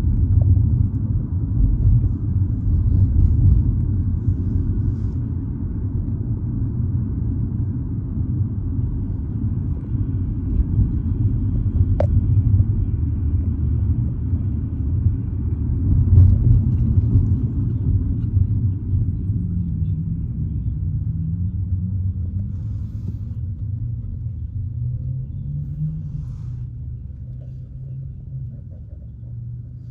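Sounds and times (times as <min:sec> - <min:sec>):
car driving low rumble: 0:00.0 - 0:29.9.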